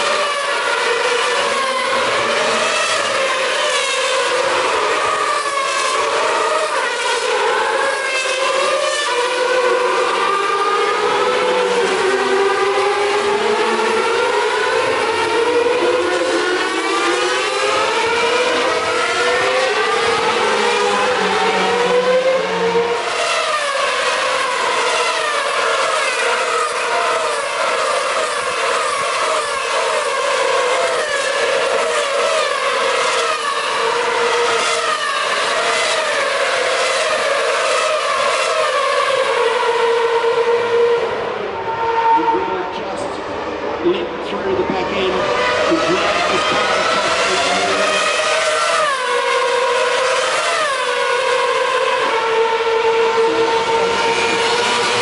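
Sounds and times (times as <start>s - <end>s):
racing car engines passing: 0.0s - 55.0s.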